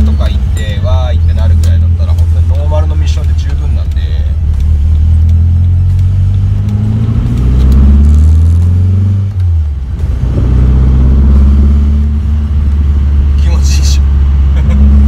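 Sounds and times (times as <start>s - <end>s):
car engine revving through gears: 0.0s - 15.0s.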